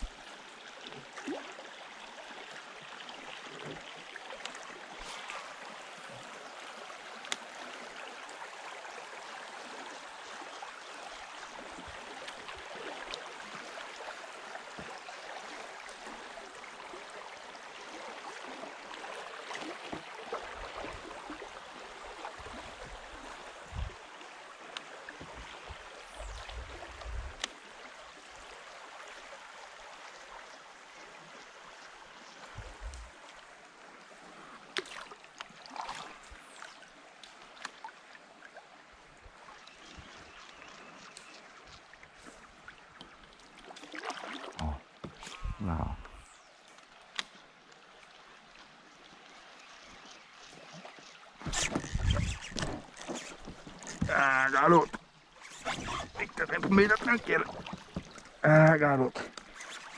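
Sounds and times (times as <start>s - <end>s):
river flowing over riffles: 0.0s - 59.9s.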